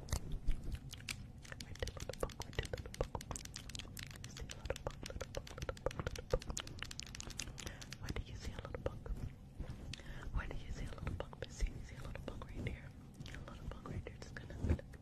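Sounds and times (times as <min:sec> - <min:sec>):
fingers tapping and scratching: 0:00.0 - 0:15.0.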